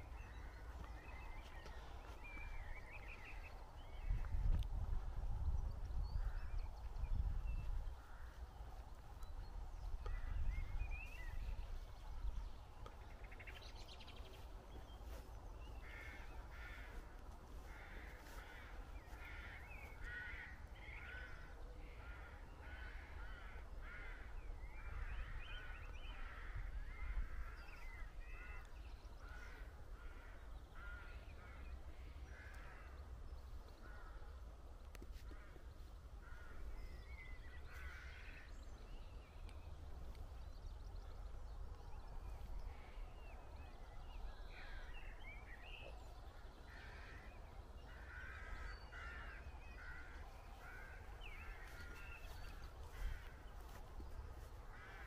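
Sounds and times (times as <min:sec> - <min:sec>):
birds calling: 0:00.0 - 0:04.6, 0:05.4 - 0:55.0.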